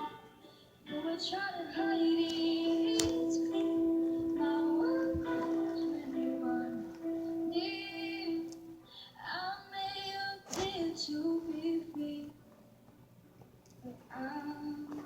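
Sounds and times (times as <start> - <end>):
young woman singing: 0.9 - 12.4, 13.8 - 15.0.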